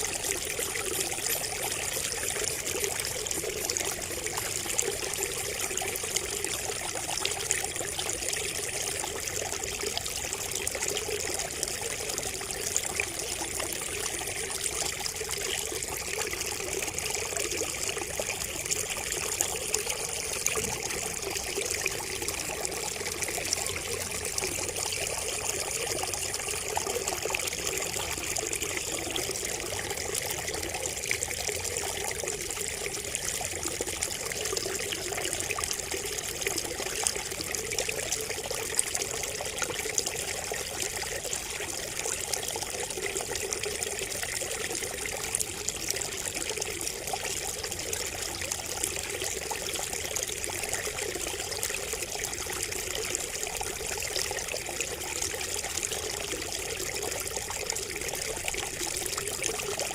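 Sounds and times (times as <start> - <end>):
water trickling from a spout: 0.0 - 59.9.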